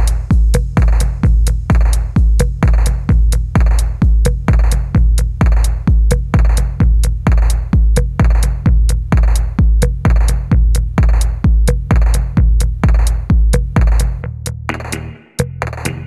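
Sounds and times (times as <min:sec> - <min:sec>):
electronic dance music: 0:00.0 - 0:16.0
heavy drum-machine kick: 0:00.0 - 0:16.0.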